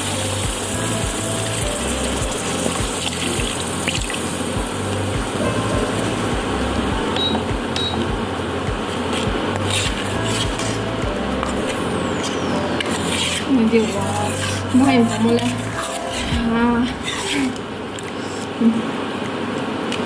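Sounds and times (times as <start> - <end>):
background music with bass beat: 0.0 - 17.1
constant hiss: 0.0 - 20.0.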